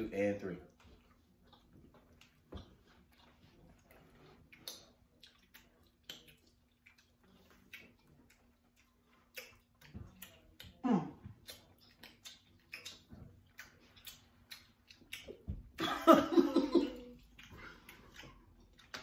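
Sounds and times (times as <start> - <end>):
wet chewing clicks and smacks: 0.5 - 15.9, 16.8 - 19.0.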